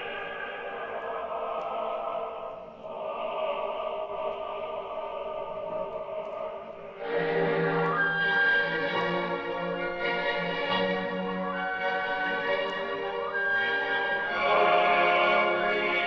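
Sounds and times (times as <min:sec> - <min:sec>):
operatic music sustained chords: 0:00.0 - 0:16.0.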